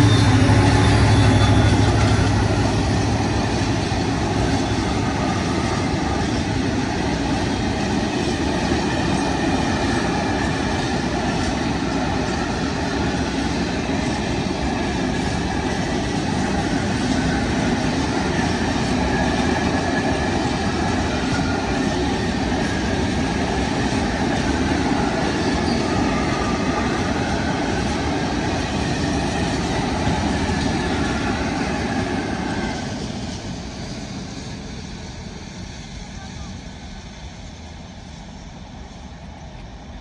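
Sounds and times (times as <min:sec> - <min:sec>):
train wheels running on rails: 0:00.0 - 0:40.0.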